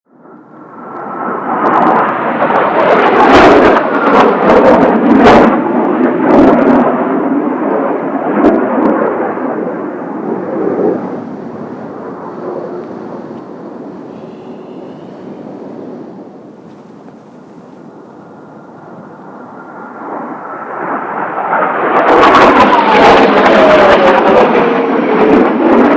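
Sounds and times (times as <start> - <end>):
jets roaring overhead: 0.1 - 25.9.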